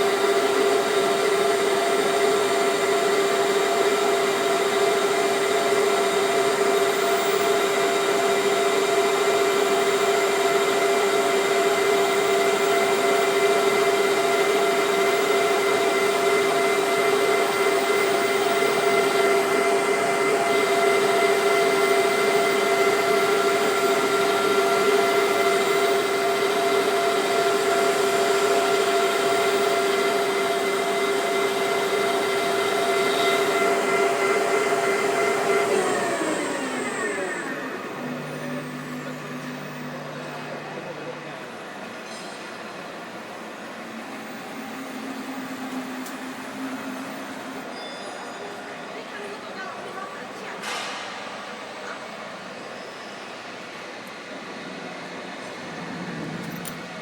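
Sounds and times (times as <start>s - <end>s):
lathe machine whine: 0.0s - 49.6s, 51.4s - 57.0s.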